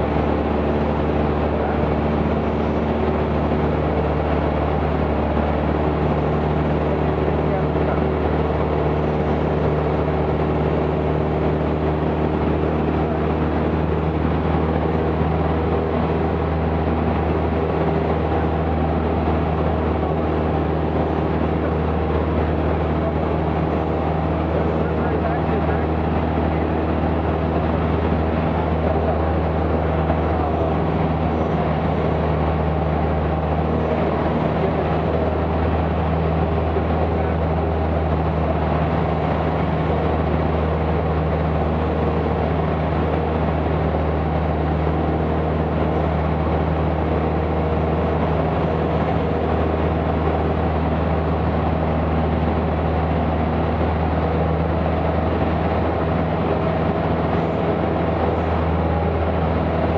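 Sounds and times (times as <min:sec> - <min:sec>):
airplane engine and propeller droning: 0:00.0 - 0:59.9.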